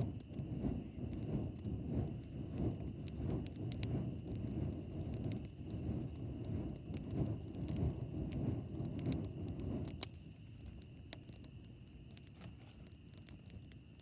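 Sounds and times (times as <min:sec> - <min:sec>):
low rumbling noise: 0:00.0 - 0:12.4
campfire crackling and popping: 0:00.0 - 0:14.0.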